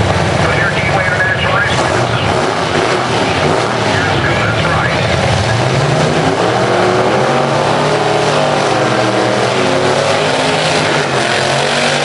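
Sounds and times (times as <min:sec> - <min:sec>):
drag racing engines revving: 0:00.0 - 0:12.0.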